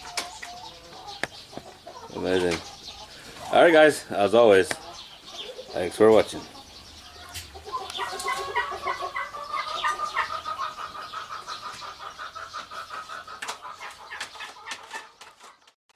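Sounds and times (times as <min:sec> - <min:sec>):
chickens clucking: 0:00.0 - 0:15.8.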